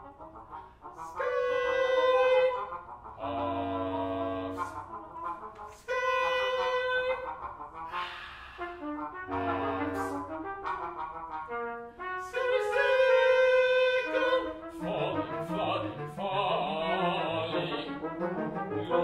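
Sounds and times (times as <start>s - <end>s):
chamber music voice and brass: 0.0s - 19.0s.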